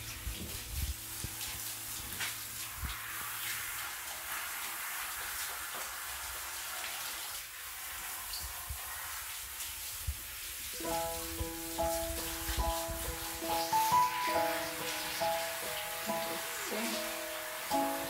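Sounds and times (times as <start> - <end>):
shower head spraying water: 0.0 - 18.0.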